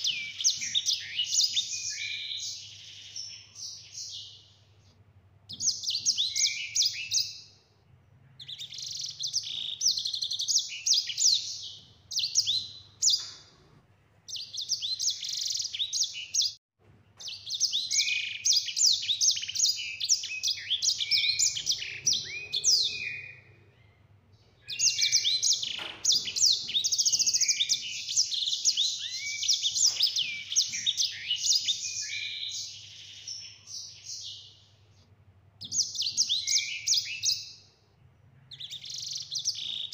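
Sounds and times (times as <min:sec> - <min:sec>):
finch twittering song: 0:00.0 - 0:04.8, 0:05.5 - 0:07.6, 0:08.3 - 0:13.6, 0:14.3 - 0:16.6, 0:17.2 - 0:34.8, 0:35.6 - 0:37.8, 0:38.4 - 0:39.9.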